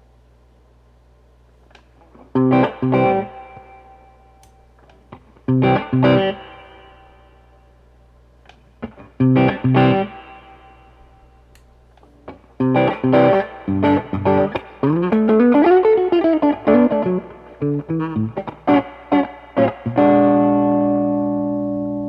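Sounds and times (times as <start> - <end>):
electric guitar playing: 2.1 - 7.6, 8.8 - 11.5, 12.1 - 22.0.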